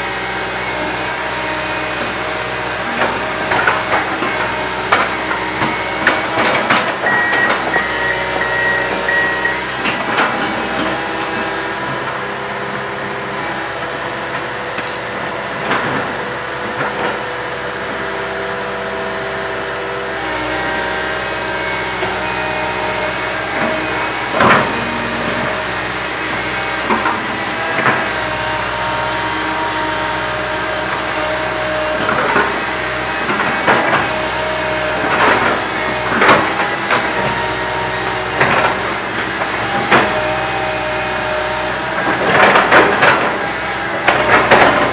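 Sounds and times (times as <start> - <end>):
excavator engine and hydraulics: 0.0 - 44.9
machine knocks and clanks: 0.0 - 44.9.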